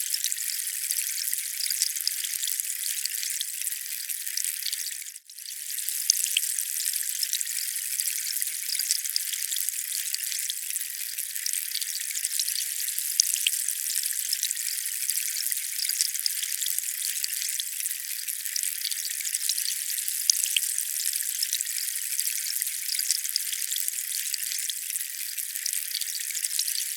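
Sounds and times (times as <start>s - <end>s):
drip-like ticks: 0.0s - 26.9s.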